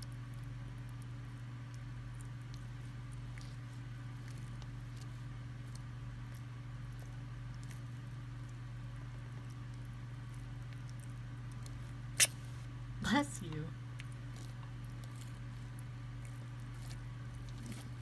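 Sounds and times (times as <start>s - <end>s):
lizard licking and biting wet food: 0.0s - 18.0s
steady low hum: 0.0s - 18.0s.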